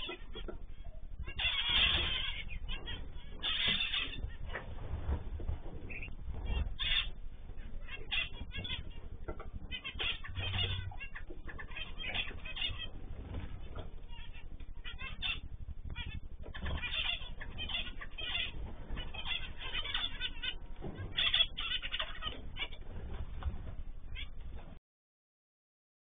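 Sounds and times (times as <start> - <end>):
birds chirping: 0.0 - 24.8
low steady rumble: 0.0 - 24.8.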